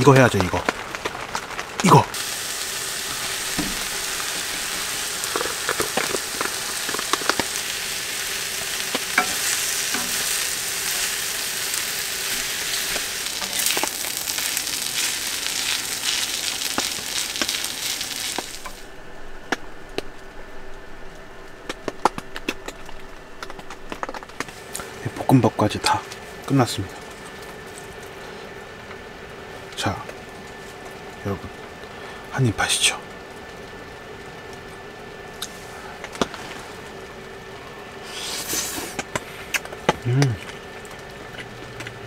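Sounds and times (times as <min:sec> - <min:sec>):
rice sizzling on griddle: 0:00.0 - 0:42.0.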